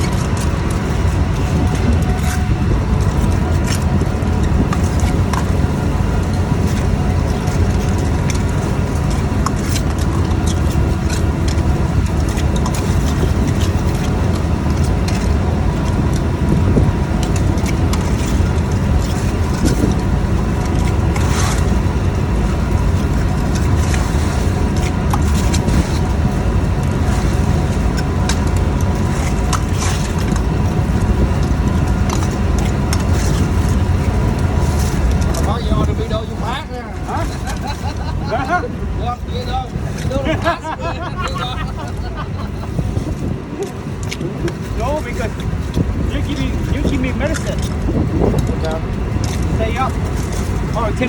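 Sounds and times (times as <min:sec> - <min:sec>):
boat engine and deck machinery drone: 0:00.0 - 0:51.0.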